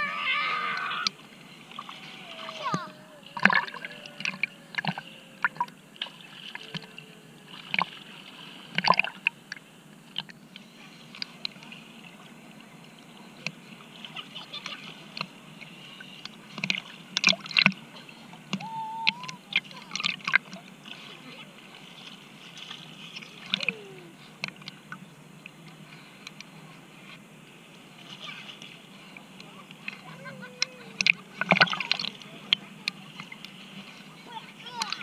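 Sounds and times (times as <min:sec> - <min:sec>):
water splashing around swimmer: 0:00.0 - 0:25.0, 0:27.9 - 0:35.0.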